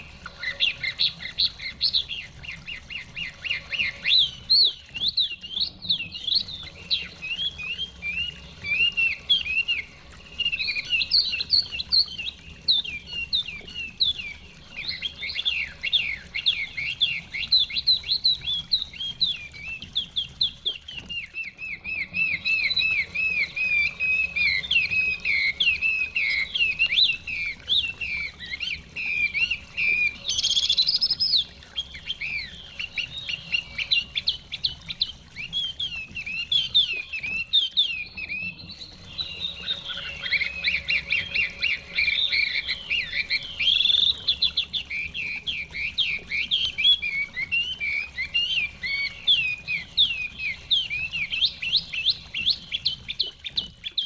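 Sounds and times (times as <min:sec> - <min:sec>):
bird singing whistled notes: 0:00.0 - 0:54.0
faint low background hum: 0:00.0 - 0:54.0.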